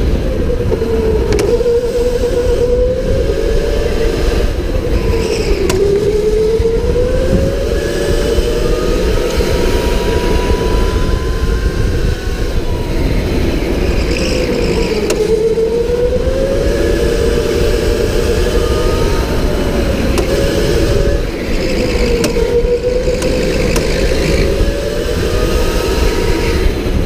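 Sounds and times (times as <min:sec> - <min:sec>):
electric go-kart motor whining: 0:00.0 - 0:27.0
steady low rumble: 0:00.0 - 0:27.0.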